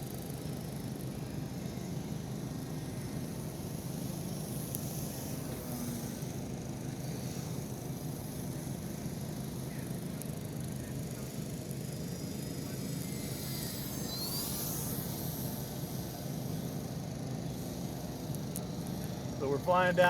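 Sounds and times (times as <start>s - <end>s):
model plane motor droning: 0.0s - 20.0s.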